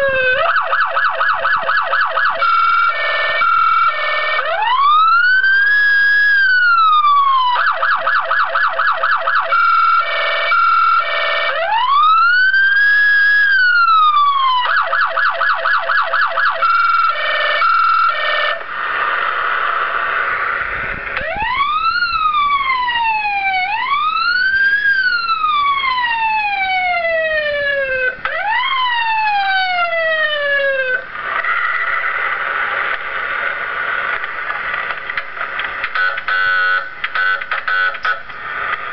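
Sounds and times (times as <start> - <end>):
electronic police siren: 0.0 - 18.7, 21.2 - 32.0, 35.9 - 38.2.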